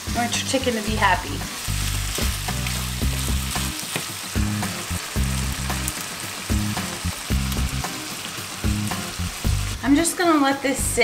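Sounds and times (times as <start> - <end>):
chicken sizzling in pan: 0.0 - 11.0.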